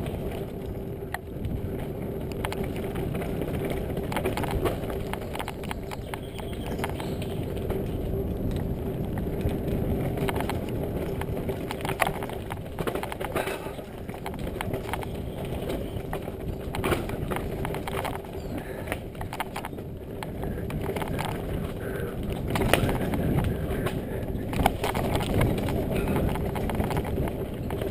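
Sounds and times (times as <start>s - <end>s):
bike knocks and rattles: 0.0s - 27.9s
bike tyres rolling on dirt: 0.0s - 27.9s.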